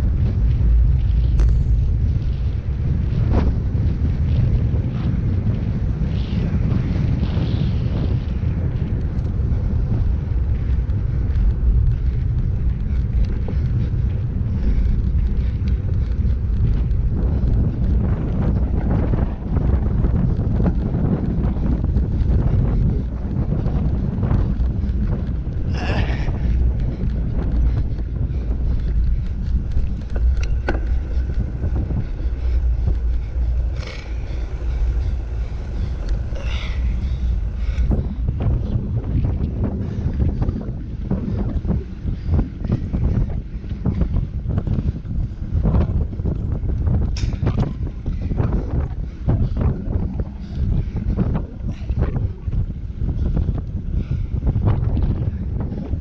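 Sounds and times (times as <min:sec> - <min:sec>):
bike clicks and rattles: 0:00.0 - 0:56.0
wind buffeting microphone: 0:00.0 - 0:56.0.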